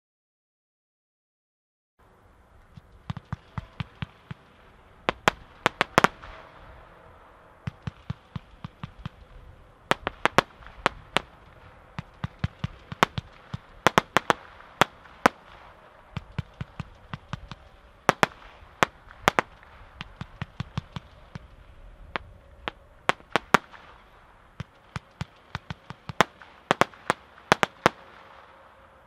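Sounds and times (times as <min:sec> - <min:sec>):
fireworks cracking and popping: 0:02.6 - 0:06.6, 0:07.6 - 0:28.6.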